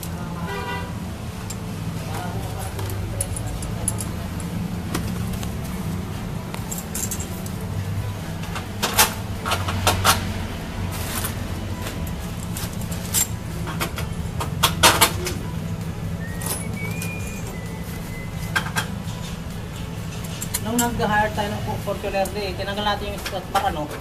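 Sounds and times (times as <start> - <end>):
metal tools clinking on vehicle: 0.0 - 24.0
steady low hum: 0.0 - 24.0.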